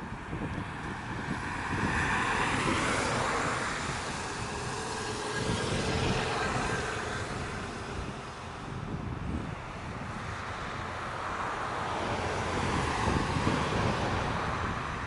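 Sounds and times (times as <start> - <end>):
vehicle passing on road: 0.0 - 15.0
wind buffeting microphone: 0.0 - 15.0.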